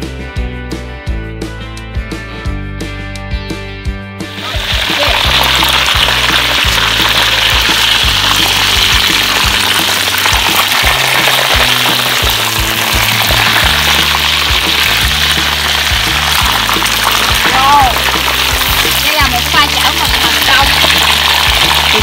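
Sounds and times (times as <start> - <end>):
background music with steady beat: 0.0 - 22.0
hot oil sizzling: 4.2 - 22.0.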